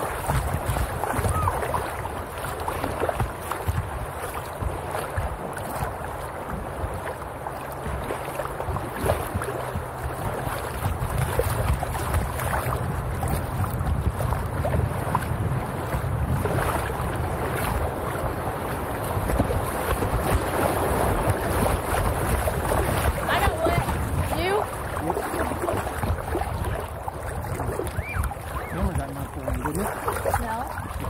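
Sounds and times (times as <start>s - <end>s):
river water splashing against kayak: 0.0s - 31.0s
wind rumbling on microphone: 0.0s - 31.0s.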